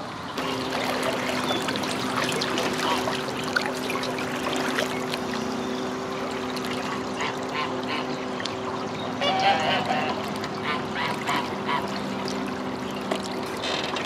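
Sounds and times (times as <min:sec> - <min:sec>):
water lapping against canoe: 0:00.0 - 0:14.0.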